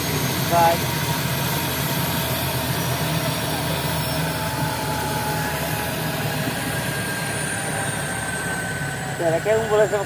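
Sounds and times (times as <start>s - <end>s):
helicopter turbine and rotor: 0.0s - 10.0s.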